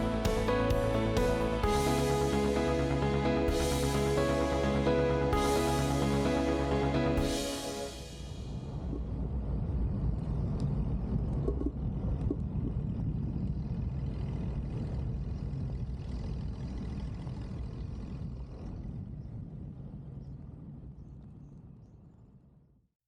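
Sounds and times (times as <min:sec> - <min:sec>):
car engine and road rumble: 0:00.0 - 0:21.3.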